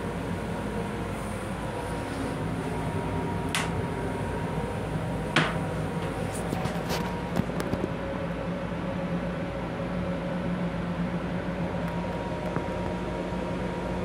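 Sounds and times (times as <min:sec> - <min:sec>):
railcar interior hum: 0:00.0 - 0:14.0.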